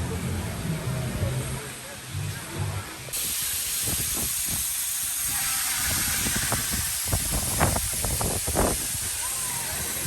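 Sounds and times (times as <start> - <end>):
rushing spraying water: 1.3 - 10.0.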